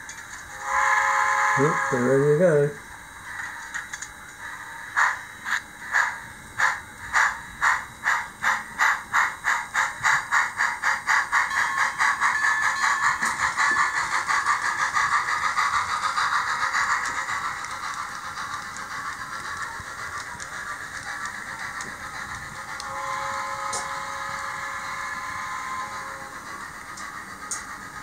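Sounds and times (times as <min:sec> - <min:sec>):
model steam locomotive chuffing: 0:00.0 - 0:28.0
steam hiss: 0:00.5 - 0:03.6, 0:04.4 - 0:28.0.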